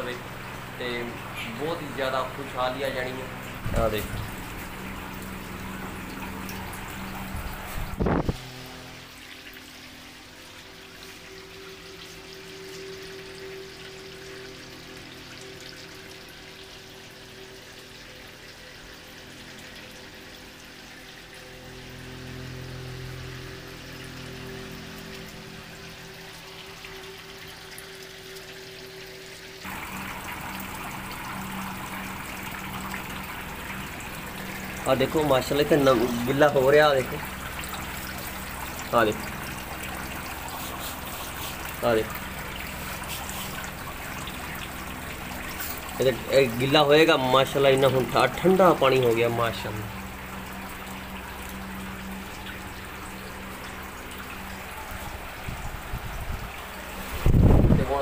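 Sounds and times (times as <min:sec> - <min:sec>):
air cooler humming: 0:00.0 - 0:58.0
water trickling and splashing into tank: 0:00.0 - 0:58.0.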